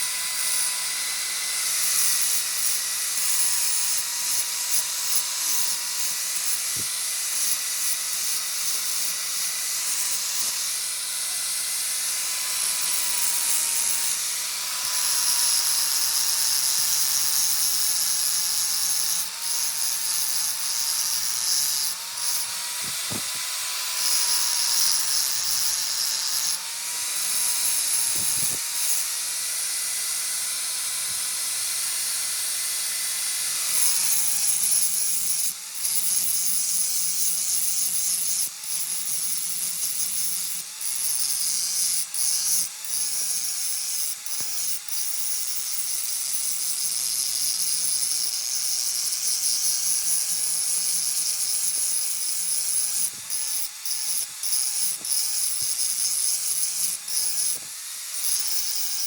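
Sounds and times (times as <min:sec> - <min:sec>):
electric grinder on metal: 0:00.0 - 0:59.0.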